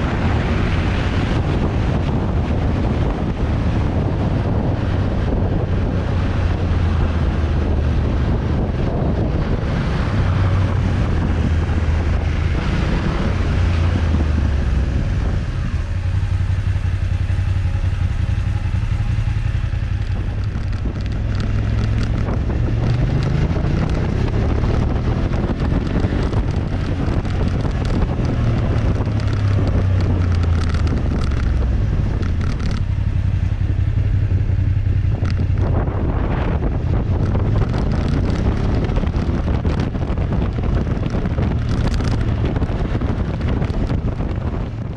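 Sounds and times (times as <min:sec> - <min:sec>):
motorcycle engine: 0:00.0 - 0:44.9
wind noise on microphone: 0:00.0 - 0:44.9.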